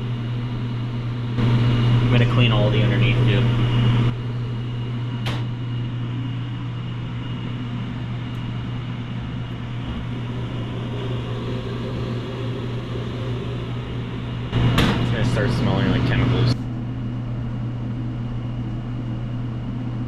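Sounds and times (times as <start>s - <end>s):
machine hum with fan noise: 0.0s - 20.0s.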